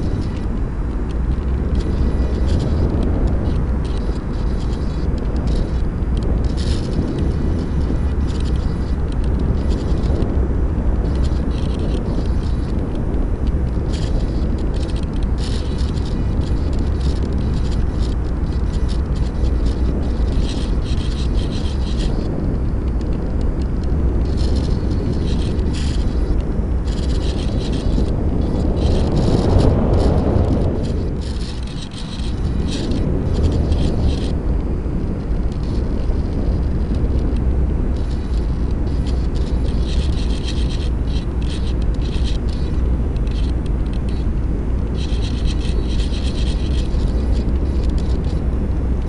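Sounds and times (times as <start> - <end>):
airflow rushing over camera: 0.0 - 49.0.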